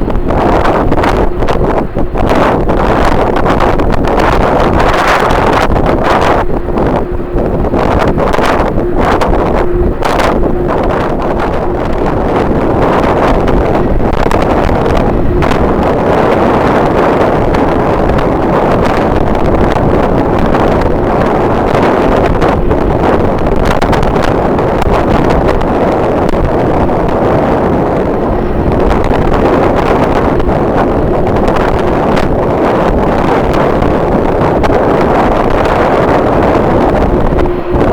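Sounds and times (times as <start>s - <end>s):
strong wind buffeting microphone: 0.0s - 37.9s.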